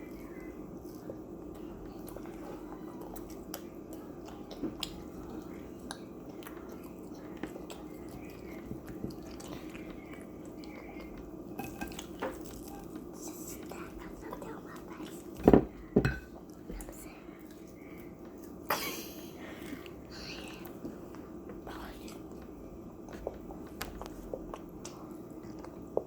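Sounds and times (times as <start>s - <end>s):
people chewing food: 0.0s - 26.0s
steady low hum: 0.0s - 26.0s.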